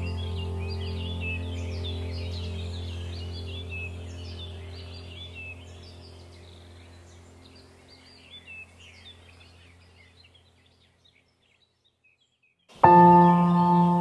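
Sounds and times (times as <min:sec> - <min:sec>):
low steady hum: 0:00.0 - 0:11.9
birds chirping: 0:00.0 - 0:14.0.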